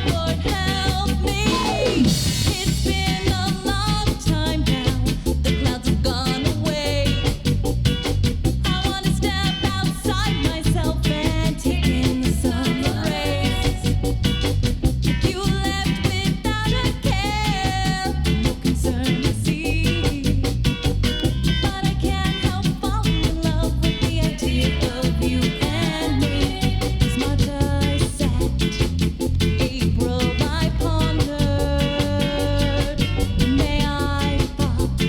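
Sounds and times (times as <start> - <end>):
reggae record playing: 0.0 - 35.0.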